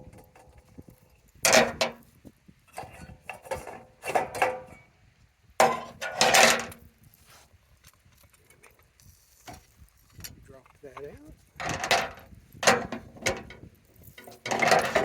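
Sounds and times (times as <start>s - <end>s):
metal clanks and scrapes: 0.0s - 4.9s, 5.6s - 7.5s, 8.2s - 15.0s.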